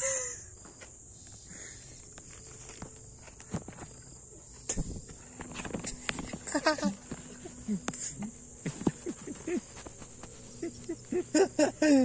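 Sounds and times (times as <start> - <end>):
high insect chirring: 0.5 - 12.0.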